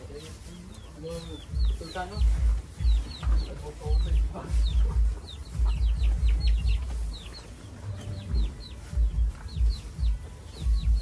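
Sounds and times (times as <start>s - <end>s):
chicks cheeping: 0.0s - 11.0s.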